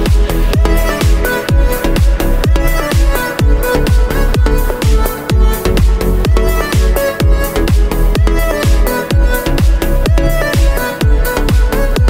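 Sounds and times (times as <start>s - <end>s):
held synth notes: 0.0s - 12.0s
kick drum: 0.0s - 12.0s.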